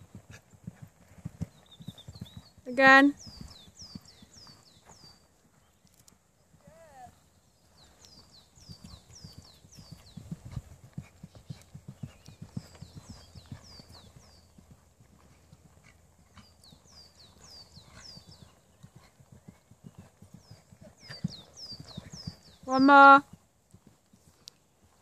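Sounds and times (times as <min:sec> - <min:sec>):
horse hoofbeats on sand: 0:00.0 - 0:07.2, 0:07.8 - 0:25.0.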